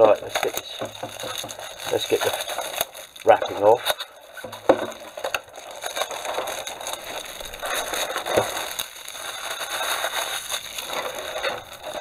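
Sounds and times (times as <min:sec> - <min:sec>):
plastic shrink-wrap crackling: 0:00.0 - 0:12.0.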